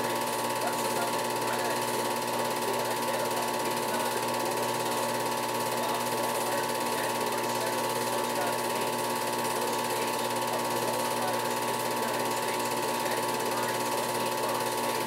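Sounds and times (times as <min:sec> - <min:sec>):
film projector clattering: 0:00.0 - 0:15.0.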